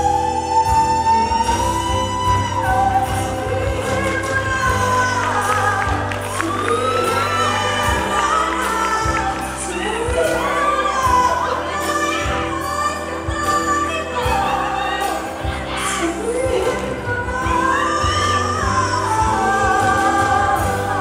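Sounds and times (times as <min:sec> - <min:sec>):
woman singing into a microphone: 0:00.0 - 0:21.0.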